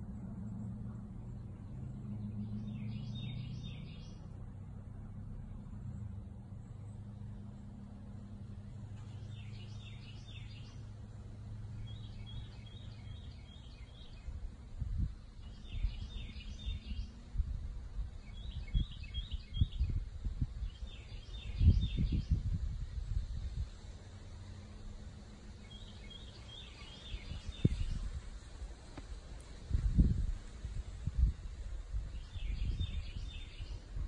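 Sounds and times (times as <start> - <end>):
songbird singing: 0.0 - 34.0
steady low hum: 4.0 - 34.0.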